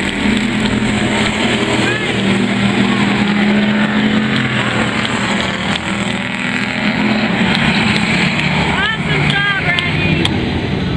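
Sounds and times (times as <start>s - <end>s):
tyre and track noise: 0.0s - 10.5s
race car engines droning: 0.0s - 10.9s.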